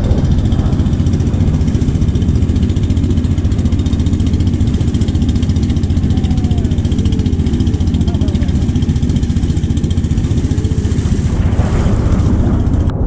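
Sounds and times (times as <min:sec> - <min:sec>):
boat engine pulsing: 0:00.0 - 0:13.0.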